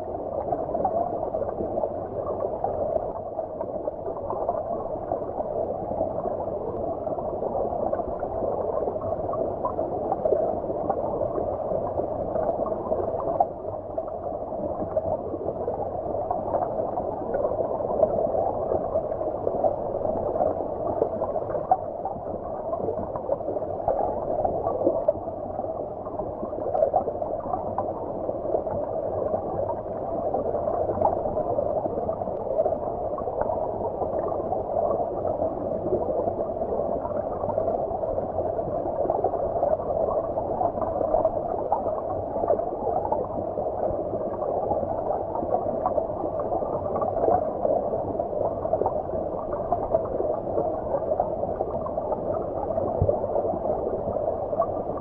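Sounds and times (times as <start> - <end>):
muffled underwater stream rush: 0.0 - 55.0
small clicks and bubbles: 0.0 - 55.0.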